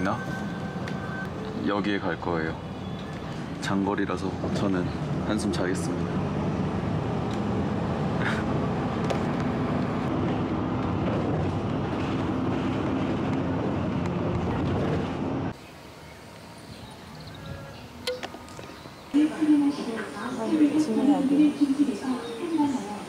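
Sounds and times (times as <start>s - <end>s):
bus engine drone: 0.0s - 23.0s
road noise: 0.0s - 23.0s.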